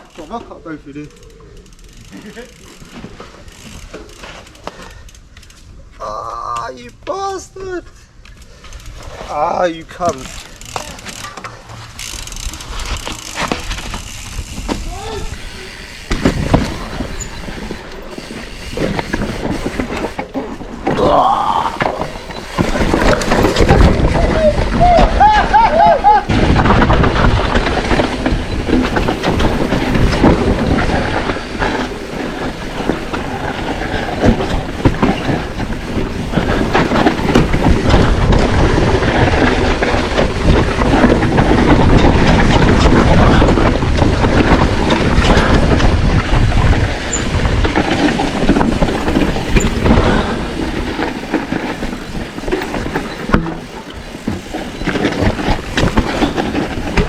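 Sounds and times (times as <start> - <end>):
bike clattering over dirt trail: 0.0 - 7.7, 8.4 - 57.0.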